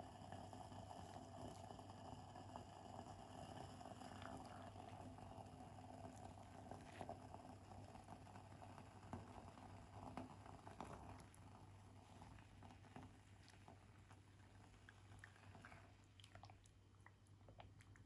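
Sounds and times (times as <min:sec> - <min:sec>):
broth simmering: 0:00.0 - 0:18.0.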